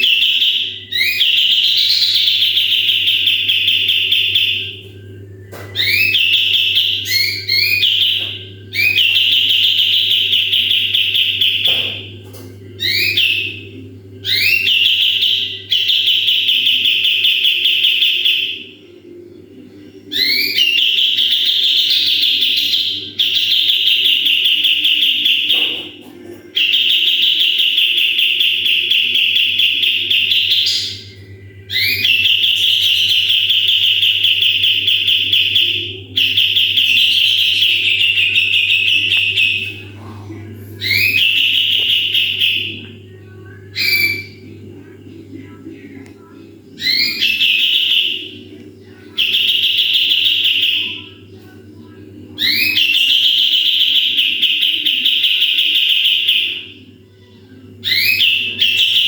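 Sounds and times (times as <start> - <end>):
songbird singing whistled trills: 0.0 - 12.2, 12.8 - 18.7, 20.1 - 25.9, 26.6 - 39.9, 40.8 - 43.1, 43.7 - 44.5, 46.8 - 51.2, 52.4 - 56.8, 57.8 - 59.0
faint low hum: 0.0 - 59.0.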